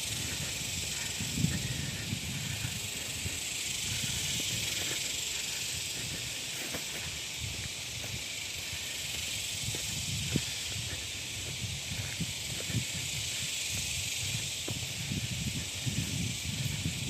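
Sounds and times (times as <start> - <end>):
footsteps on dirt path: 0.0 - 17.0
high-pitched insect chorus: 0.0 - 17.0.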